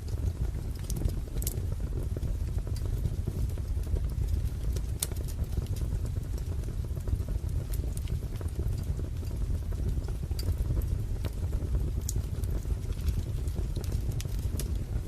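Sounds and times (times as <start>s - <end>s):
fire pops and snaps: 0.0s - 15.0s
low rumble of burning logs: 0.0s - 15.0s.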